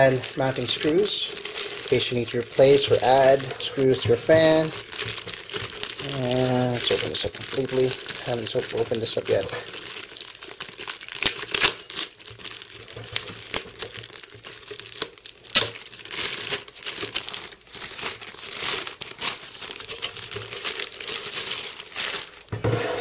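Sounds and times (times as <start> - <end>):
plastic bag crinkling and rustling: 0.0 - 23.0.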